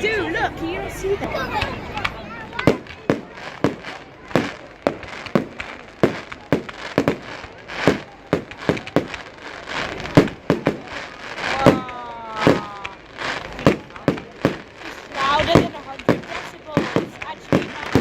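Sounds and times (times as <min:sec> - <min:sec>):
fireworks bursting with echo: 0:00.7 - 0:18.0.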